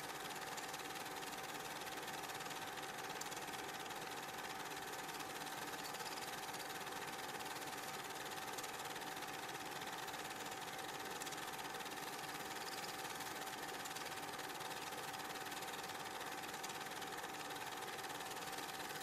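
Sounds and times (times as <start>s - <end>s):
film projector whirring: 0.0s - 19.0s.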